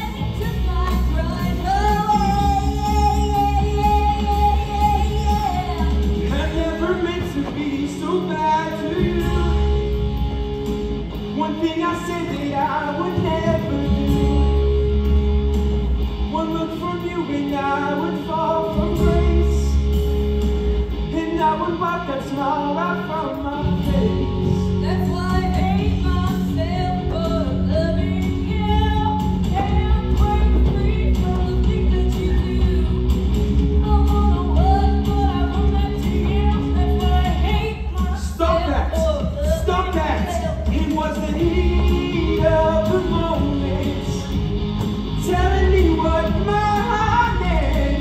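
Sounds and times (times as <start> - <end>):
singing over rock band: 0.0 - 48.0.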